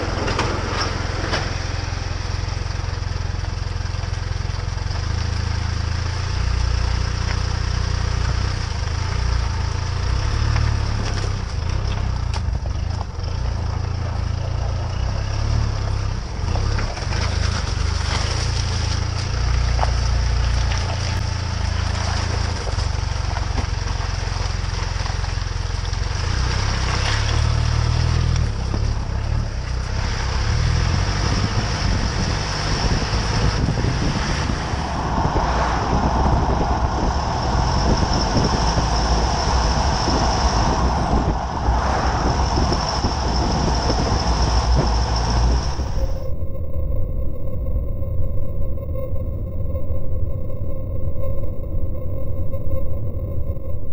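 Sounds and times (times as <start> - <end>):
vehicle engine drone: 0.0 - 53.9.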